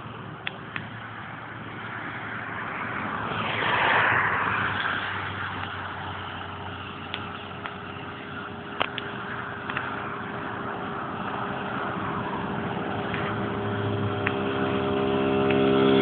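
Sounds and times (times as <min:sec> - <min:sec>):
rushing noise: 0:00.0 - 0:16.0
scooter engine drone: 0:00.0 - 0:16.0.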